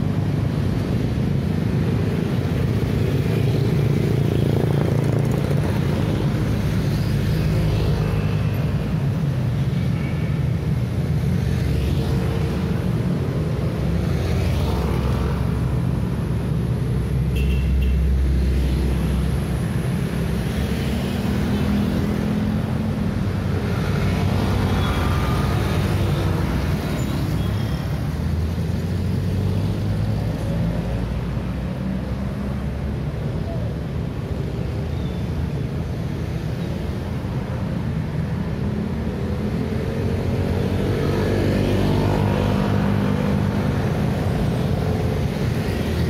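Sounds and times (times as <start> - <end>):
traffic engine and tyre rumble: 0.0 - 46.0.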